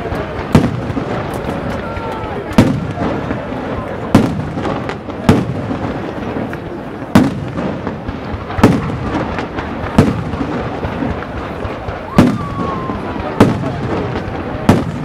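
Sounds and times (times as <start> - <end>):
fireworks crackling and rumbling: 0.0 - 15.0
loud firework bangs: 0.0 - 15.0.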